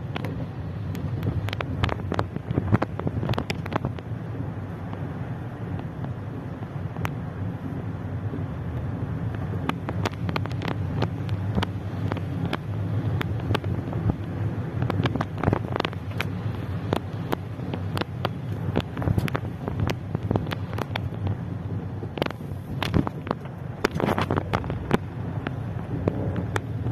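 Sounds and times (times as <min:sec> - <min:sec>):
rain tapping on car roof: 0:00.0 - 0:26.9
road and engine rumble: 0:00.0 - 0:26.9.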